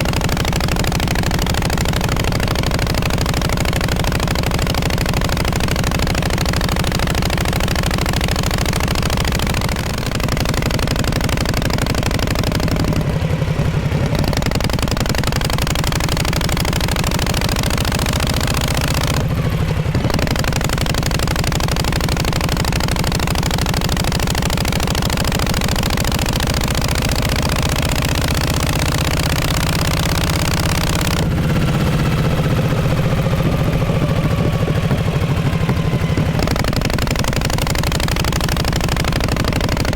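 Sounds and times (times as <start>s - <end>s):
motorcycle exhaust running loud: 0.0s - 39.9s.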